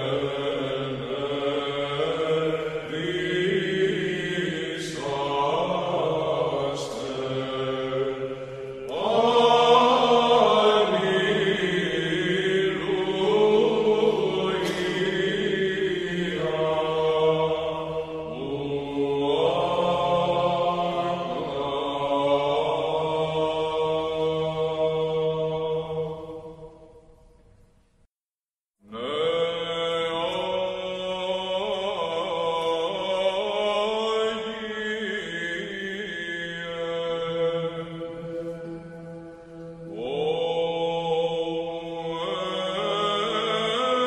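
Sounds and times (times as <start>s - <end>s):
slow chant-like singing: 0.0s - 27.3s, 28.8s - 44.0s.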